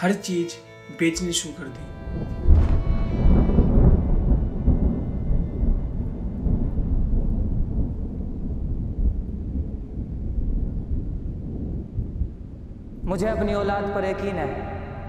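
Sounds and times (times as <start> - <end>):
thunder rumbling: 1.8 - 15.0.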